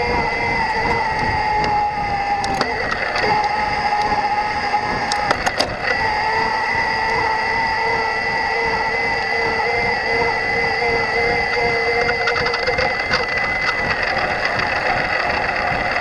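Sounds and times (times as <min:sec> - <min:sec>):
crackles: 0:00.0 - 0:16.0
ebike motor whining: 0:00.0 - 0:16.0
rough rolling noise: 0:00.0 - 0:16.0
sharp clicks: 0:00.1 - 0:07.4, 0:09.2 - 0:16.0.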